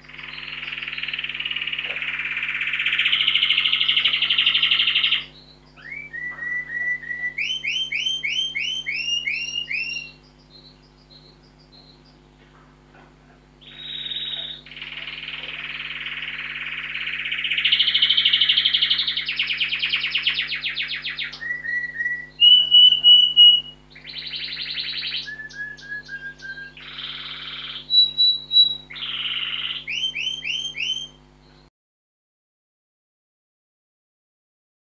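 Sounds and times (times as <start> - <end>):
canary singing trills and whistles: 0.0 - 12.2, 13.6 - 31.7
low steady hum: 0.0 - 31.7.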